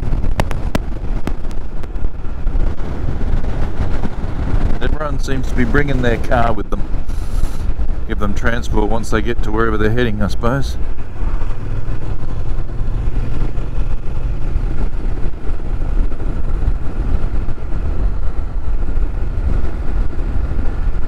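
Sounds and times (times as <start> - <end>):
motorcycle engine droning: 0.0 - 21.0
wind rush on microphone: 0.0 - 21.0.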